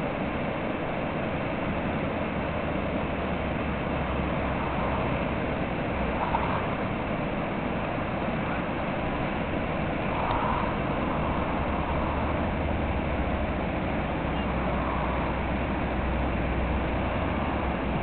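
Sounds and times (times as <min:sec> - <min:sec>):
river water rushing over rapids: 0:00.0 - 0:18.0.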